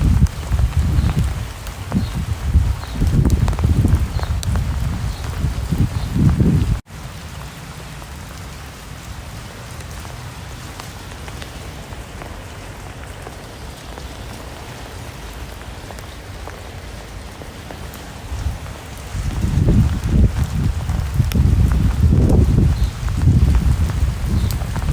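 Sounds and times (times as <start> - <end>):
raindrops ticking: 0.0 - 24.9
steady rain: 0.0 - 24.9.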